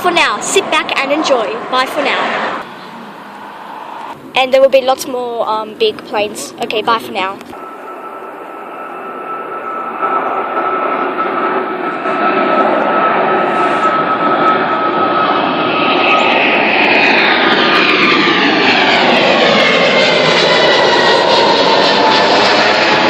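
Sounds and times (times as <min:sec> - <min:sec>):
jet airliner engines roaring: 0:00.0 - 0:23.0
jet engine whine: 0:00.0 - 0:23.0.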